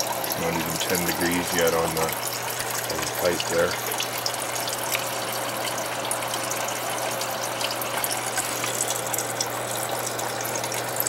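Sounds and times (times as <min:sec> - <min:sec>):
water rushing into bucket: 0:00.0 - 0:11.0.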